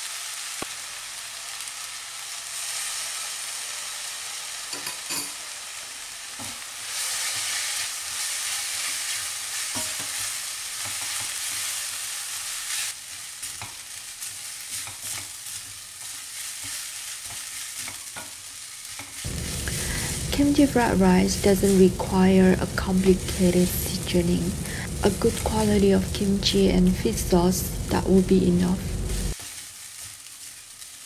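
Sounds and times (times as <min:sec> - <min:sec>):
rice sizzling in a wok: 0:00.0 - 0:31.0.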